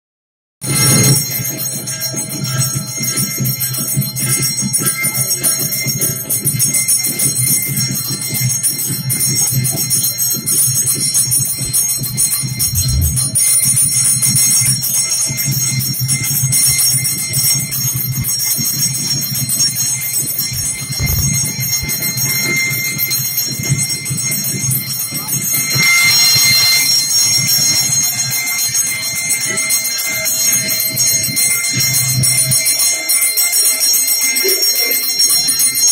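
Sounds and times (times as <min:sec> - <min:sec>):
temple bells ringing: 0:00.6 - 0:35.9.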